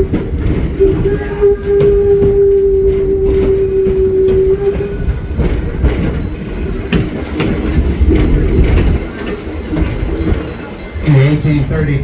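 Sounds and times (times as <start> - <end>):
rails clicking: 0.0 - 12.0
steam train rumbling: 0.0 - 12.0.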